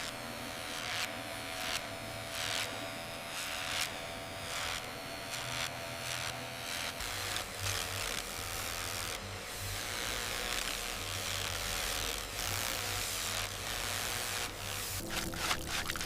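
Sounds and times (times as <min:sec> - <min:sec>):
machine hum with held tones: 0:00.0 - 0:16.0.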